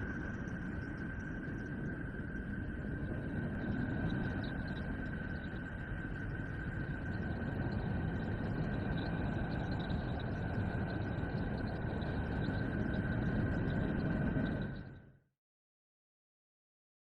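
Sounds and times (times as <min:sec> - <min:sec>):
dense rumbling static: 0:00.0 - 0:14.9
constant high whine: 0:00.0 - 0:15.2.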